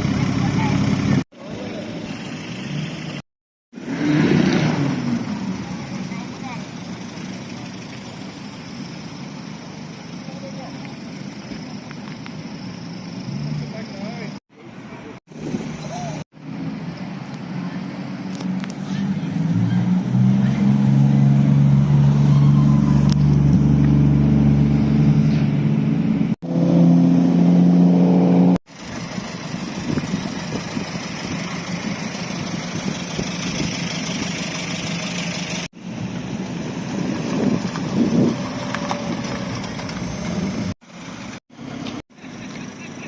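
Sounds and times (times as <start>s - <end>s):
car engines revving: 0.0s - 43.0s.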